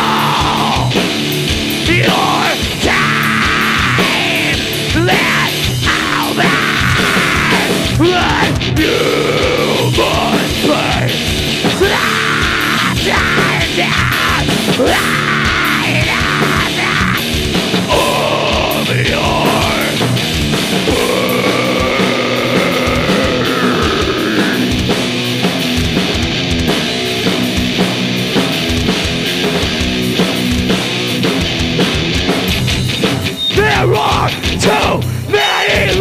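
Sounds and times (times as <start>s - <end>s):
heavy metal band playing: 0.0s - 36.0s
high wailing guitar line: 0.0s - 36.0s.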